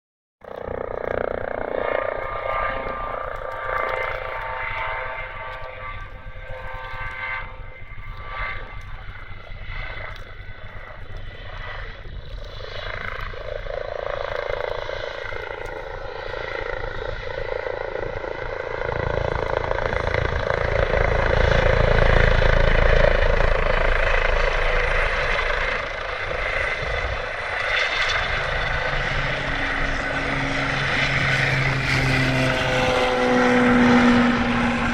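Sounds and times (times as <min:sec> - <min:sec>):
deep helicopter rotor rumble: 0:00.4 - 0:34.9
helicopter turbine whine: 0:00.4 - 0:34.9.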